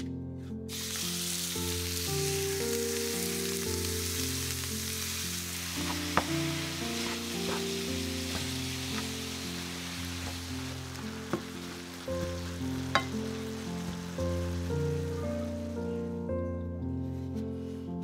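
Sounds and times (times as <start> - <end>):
meat sizzling in frying pan: 0.7 - 15.9.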